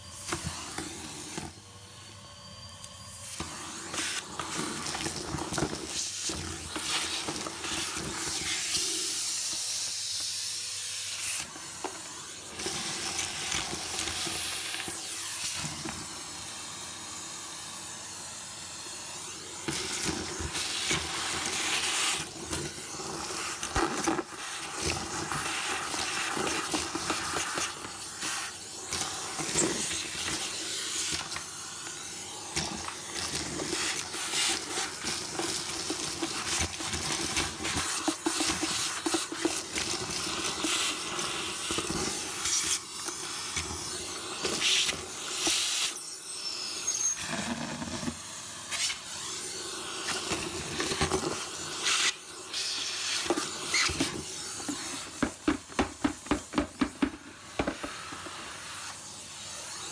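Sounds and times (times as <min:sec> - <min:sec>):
vacuum suction hiss: 0:00.0 - 0:59.9.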